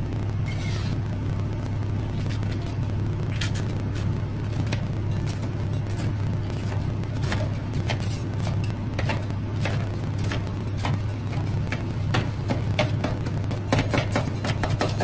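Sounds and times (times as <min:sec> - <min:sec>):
refrigeration machine humming: 0:00.0 - 0:15.0.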